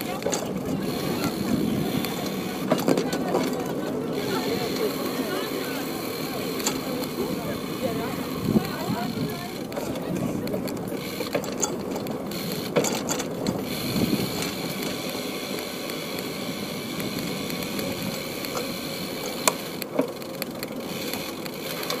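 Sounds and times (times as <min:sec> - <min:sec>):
bicycle knocking over joints: 0:00.0 - 0:22.0
bicycle rattling over stone paving: 0:00.0 - 0:22.0.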